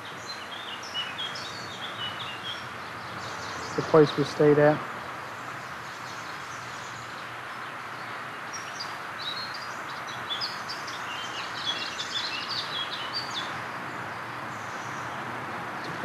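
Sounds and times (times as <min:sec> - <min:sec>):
songbirds chirping: 0:00.0 - 0:16.0
steady background hiss: 0:00.0 - 0:16.0.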